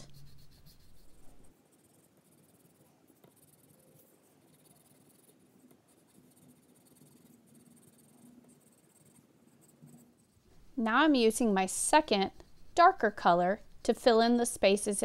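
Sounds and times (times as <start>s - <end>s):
crayon scratching on paper: 0.0s - 15.0s.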